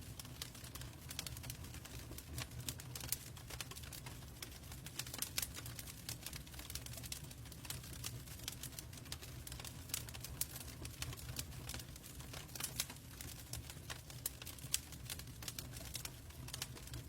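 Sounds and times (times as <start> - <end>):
log fire crackling and popping: 0.0 - 17.0.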